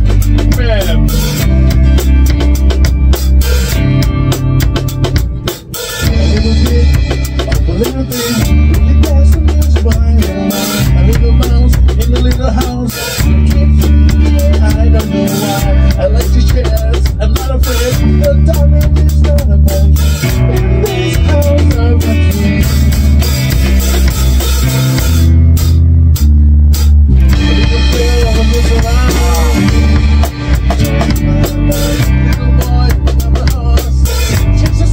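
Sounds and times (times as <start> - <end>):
drum kit: 0.0 - 34.9
electric guitar: 0.0 - 34.9
heavy low bass line: 0.0 - 34.9.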